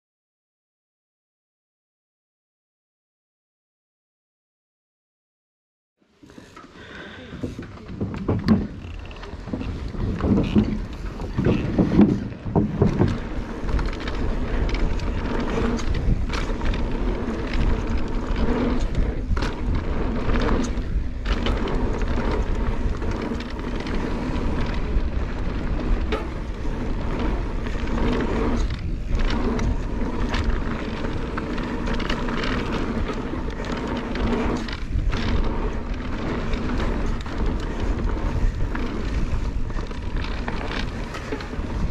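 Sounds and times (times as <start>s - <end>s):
bike tyres rumbling on dirt: 6.2s - 41.9s
bike knocks and rattles: 6.4s - 41.9s
wind buffeting microphone: 7.2s - 41.9s.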